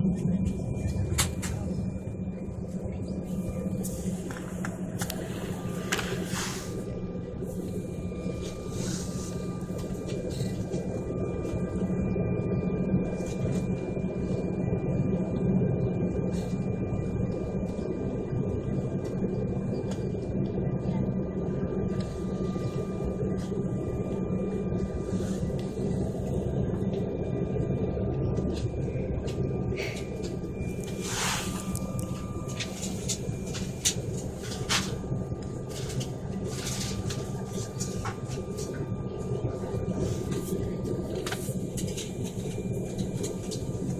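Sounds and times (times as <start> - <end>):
jet engine cabin rumble: 0.0 - 43.9
thin steady whining tones: 0.0 - 43.9.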